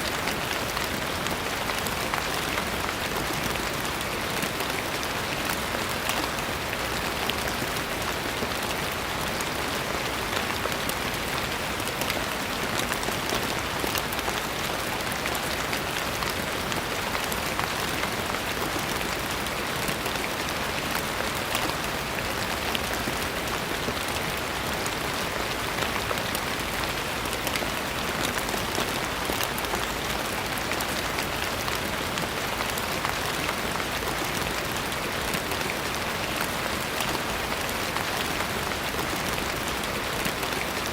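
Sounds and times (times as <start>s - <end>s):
rain falling: 0.0s - 40.9s
raindrops pattering on surface: 0.0s - 40.9s.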